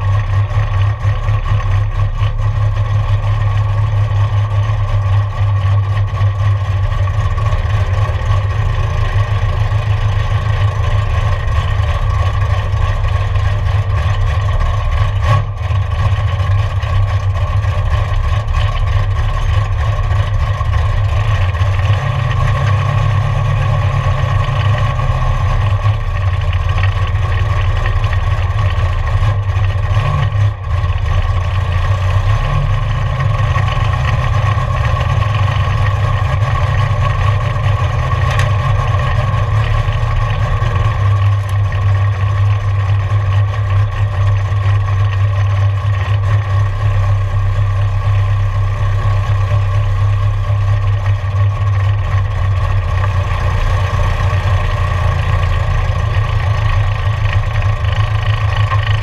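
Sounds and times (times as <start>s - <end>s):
car engine at low revs: 0.0s - 59.0s.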